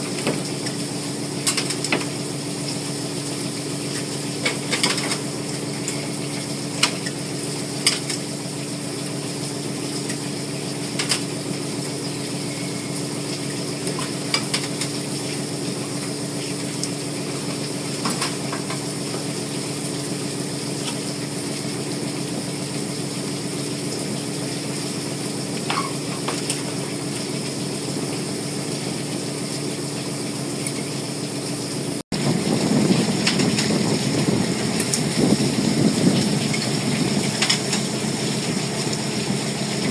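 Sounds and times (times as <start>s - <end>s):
boat machinery humming: 0.0s - 39.9s.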